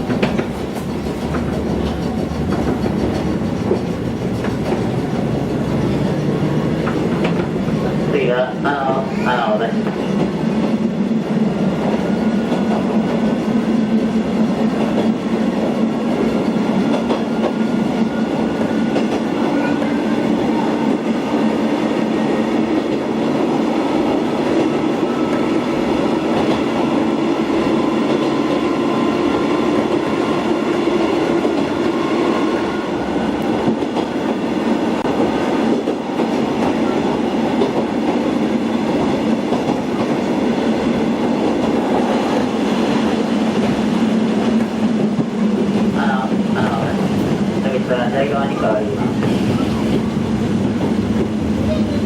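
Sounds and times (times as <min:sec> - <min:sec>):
train running noise: 0:00.0 - 0:52.0.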